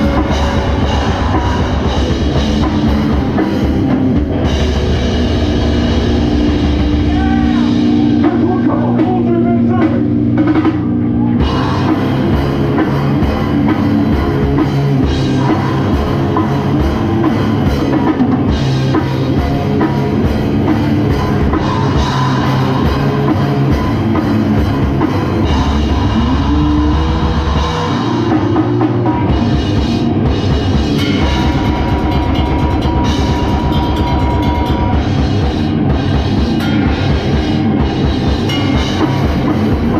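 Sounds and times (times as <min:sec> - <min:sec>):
distorted guitar and bass: 0:00.0 - 0:39.9
pounding drum kit: 0:00.0 - 0:39.9.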